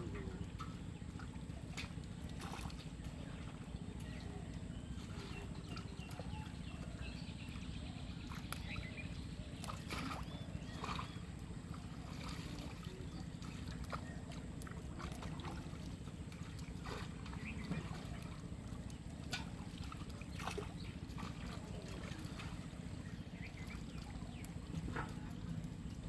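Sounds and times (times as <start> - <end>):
water sloshing and splashing: 0.0 - 26.0.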